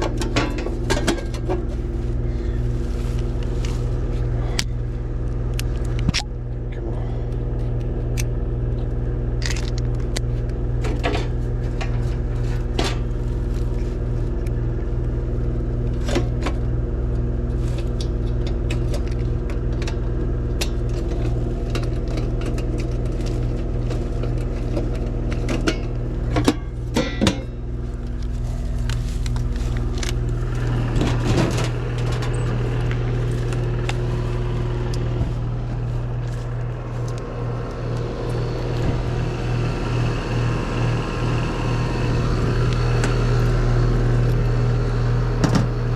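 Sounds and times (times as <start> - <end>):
heat pump electrical hum: 0.0 - 45.9.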